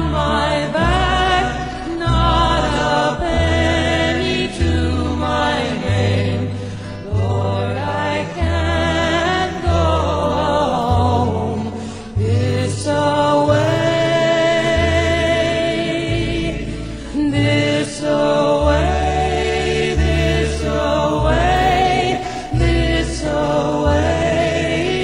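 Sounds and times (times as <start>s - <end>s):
deep bass line: 0.0s - 25.0s
slow song with held sung notes: 0.0s - 25.0s.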